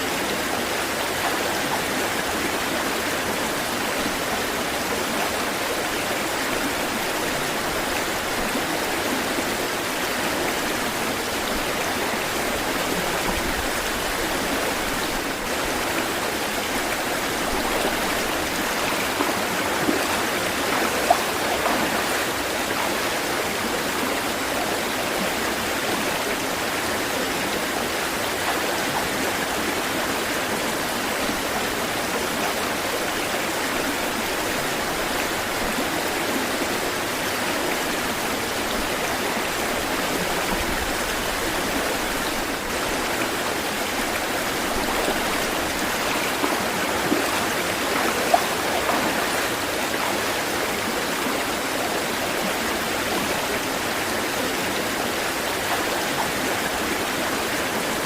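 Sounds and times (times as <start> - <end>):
water rushing: 0.0 - 58.0
water splashes: 0.4 - 26.9, 32.5 - 58.0.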